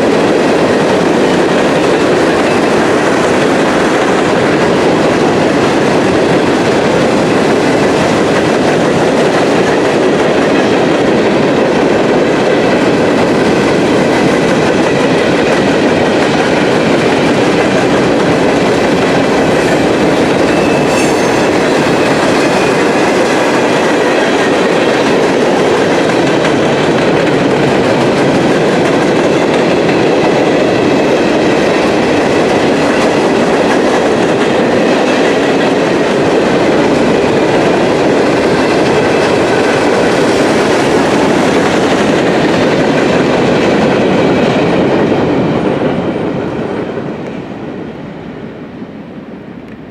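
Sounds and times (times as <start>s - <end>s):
clickety-clack over rail joints: 0.0s - 47.5s
train wheels on rails: 0.0s - 49.9s.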